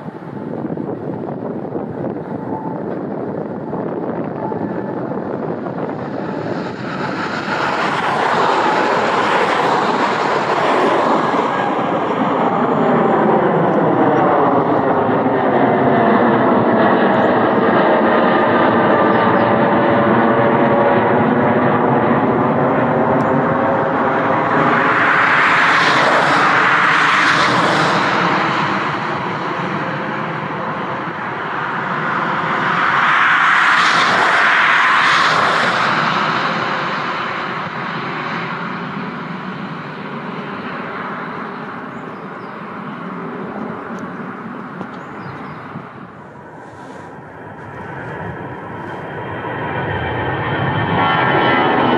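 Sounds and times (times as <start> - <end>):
jet engines roaring and whining: 0.0 - 51.9.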